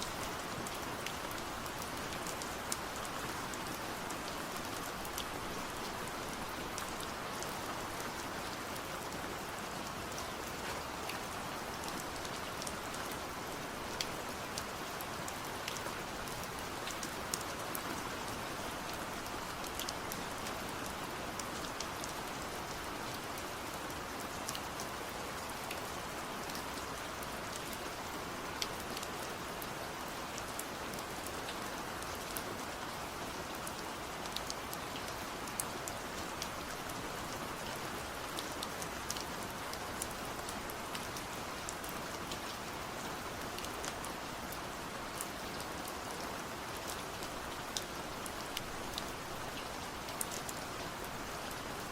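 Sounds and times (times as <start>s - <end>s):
raindrops ticking on surface: 0.0s - 51.9s.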